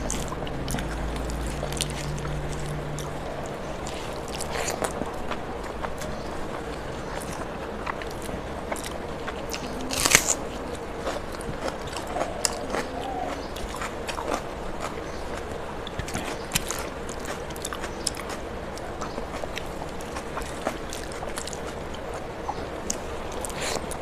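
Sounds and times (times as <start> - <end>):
chewing food: 0.0 - 24.0.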